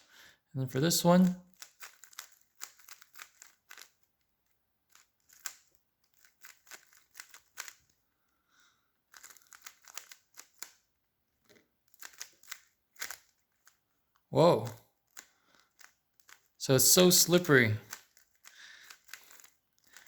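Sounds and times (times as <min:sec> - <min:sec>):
speed cube clicking as turned: 0:01.2 - 0:20.0.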